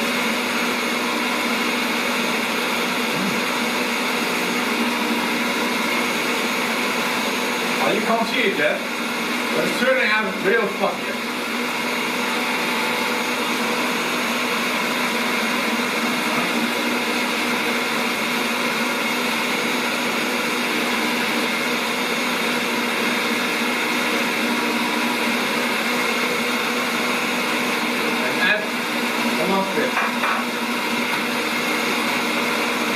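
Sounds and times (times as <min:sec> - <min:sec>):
stand mixer running at high speed: 0:00.0 - 0:32.9.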